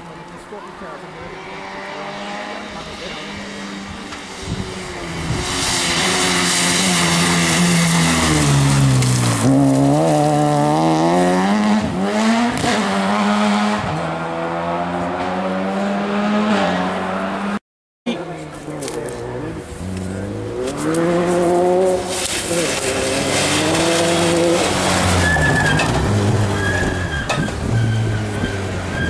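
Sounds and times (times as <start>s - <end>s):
rally car engine revving: 0.0s - 17.6s, 18.2s - 29.0s.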